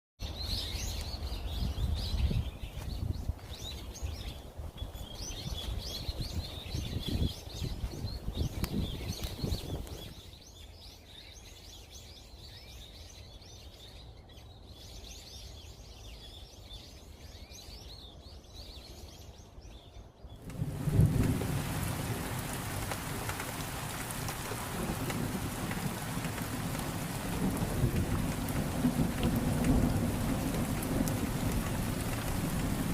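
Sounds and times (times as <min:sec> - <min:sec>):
forest birds chirping: 0:00.2 - 0:32.9.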